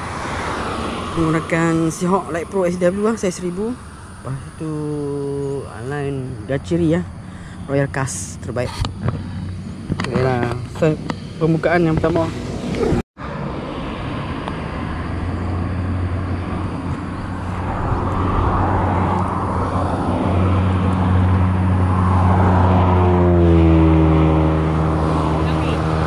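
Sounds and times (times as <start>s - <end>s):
vehicle engine passing by: 0.0s - 26.0s.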